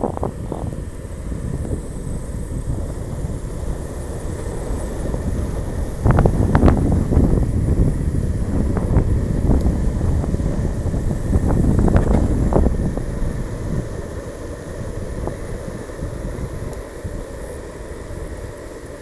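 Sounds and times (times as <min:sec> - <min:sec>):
longboard wheels rumbling on asphalt: 0:00.0 - 0:19.0
wind buffeting microphone: 0:00.0 - 0:19.0.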